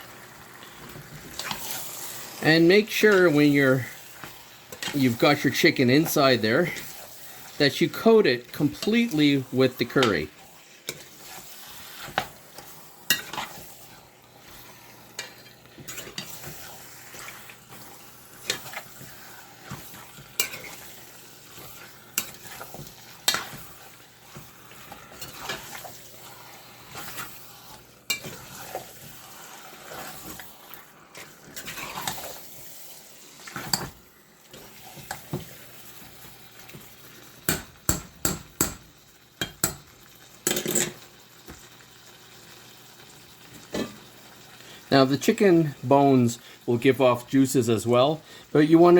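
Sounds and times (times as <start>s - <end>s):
food sizzling: 0.0s - 48.9s.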